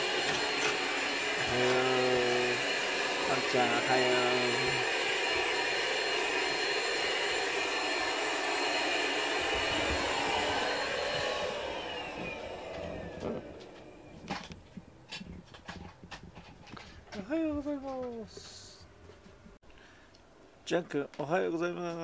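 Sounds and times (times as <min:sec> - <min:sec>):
appliance fan motor humming: 0:00.0 - 0:18.5.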